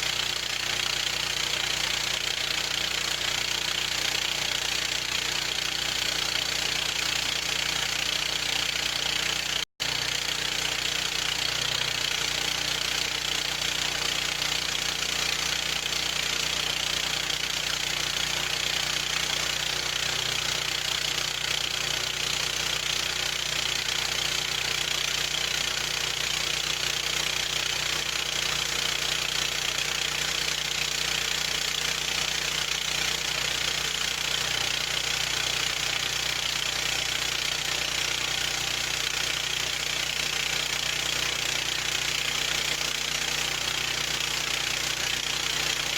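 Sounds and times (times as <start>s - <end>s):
gasoline engine running steadily: 0.0s - 45.9s.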